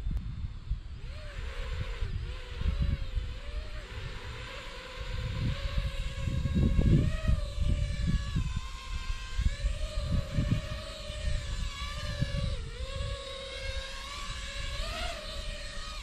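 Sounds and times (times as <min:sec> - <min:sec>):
drone propellers buzzing whine: 0:00.0 - 0:16.0
wind rumbling on microphone: 0:00.0 - 0:16.0.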